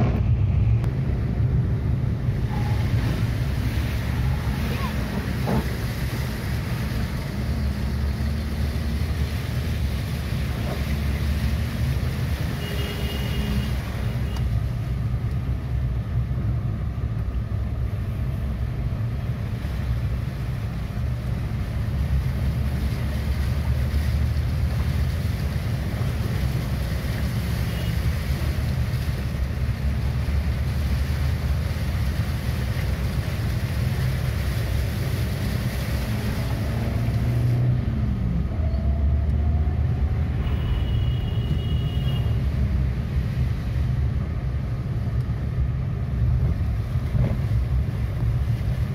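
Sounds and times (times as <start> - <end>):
car engine and tyre noise: 0.0 - 48.9
water washing under wheels: 0.0 - 48.9.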